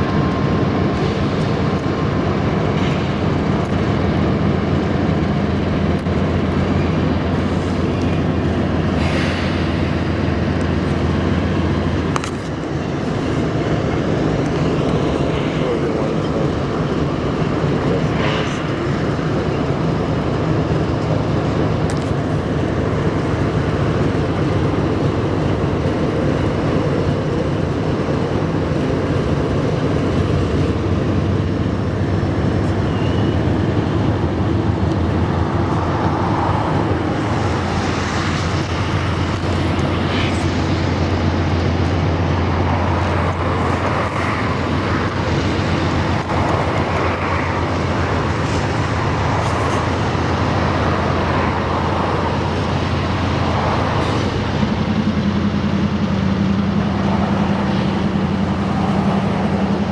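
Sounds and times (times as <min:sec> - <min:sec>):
low engine rumble: 0:00.0 - 0:59.9
moving vehicles noise: 0:00.0 - 0:59.9.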